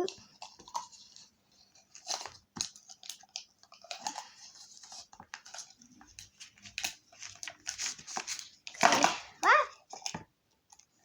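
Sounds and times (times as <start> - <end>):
plastic packaging clicks and rustling: 0.0 - 11.0.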